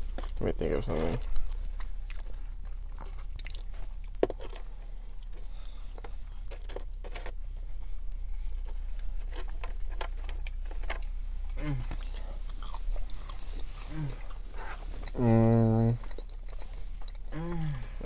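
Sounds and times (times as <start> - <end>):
chewing and biting food: 0.0 - 7.4, 9.0 - 18.0
steady low hum: 0.0 - 18.0.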